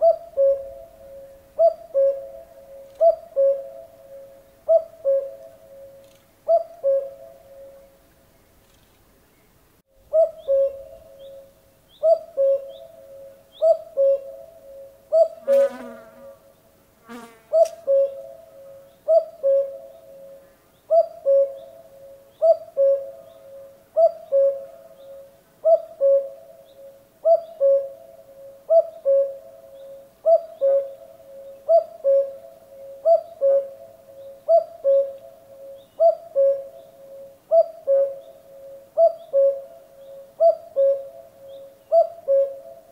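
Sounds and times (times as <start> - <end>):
cuckoo calling: 0.0 - 8.0, 10.0 - 15.5, 17.5 - 42.9.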